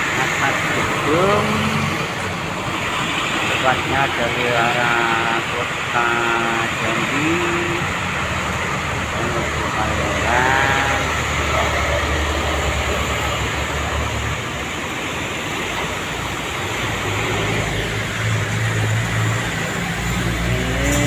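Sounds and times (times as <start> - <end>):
heavy rain falling: 0.0 - 21.0
trucks passing: 0.0 - 21.0.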